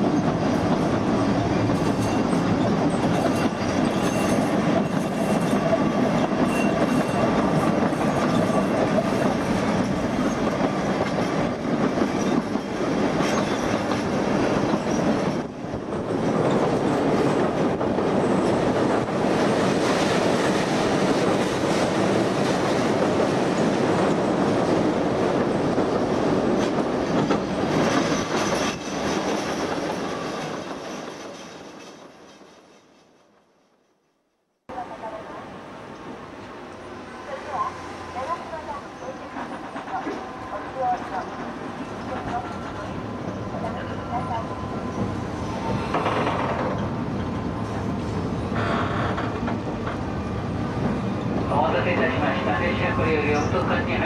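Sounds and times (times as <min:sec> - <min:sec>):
train wheels rumbling on rail: 0:00.0 - 0:33.6, 0:35.8 - 0:54.0.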